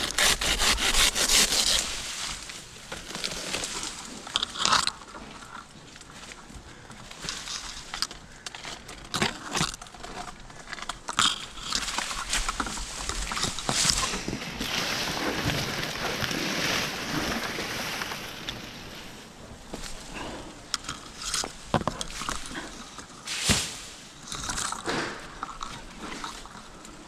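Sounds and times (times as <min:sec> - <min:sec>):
dry fronds rustling: 0:00.0 - 0:27.0
dry palm fronds crackling: 0:00.0 - 0:27.0.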